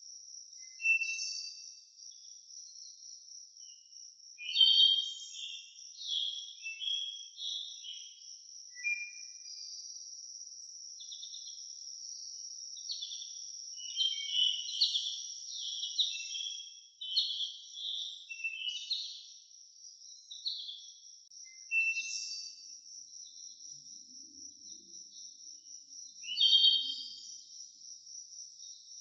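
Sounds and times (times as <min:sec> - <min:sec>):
high-pitched insect trill: 0:00.0 - 0:29.0
songbirds chirping and whistling: 0:00.5 - 0:23.9, 0:24.5 - 0:27.8.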